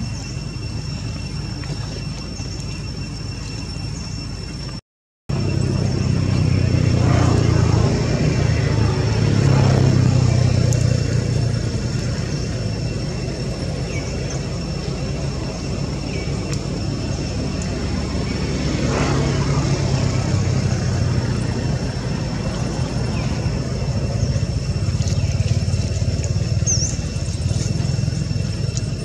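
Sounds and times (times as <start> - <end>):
passing vehicle engine rumble: 5.3 - 29.0.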